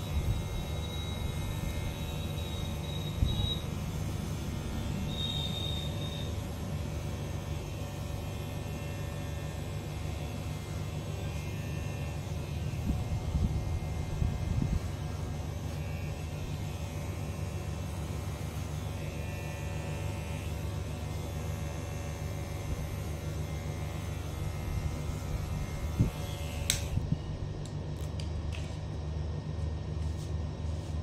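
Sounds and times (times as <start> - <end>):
electric hair clipper humming: 0.0 - 27.7.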